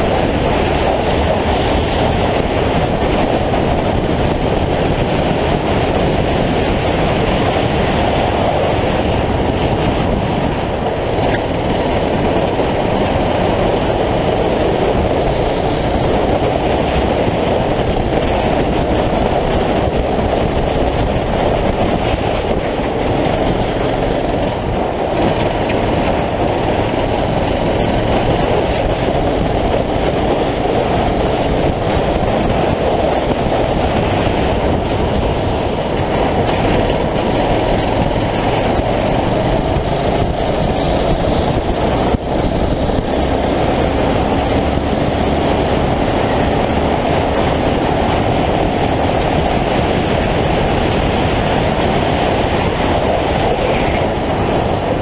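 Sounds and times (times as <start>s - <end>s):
kart engine droning under load: 0.0s - 55.0s.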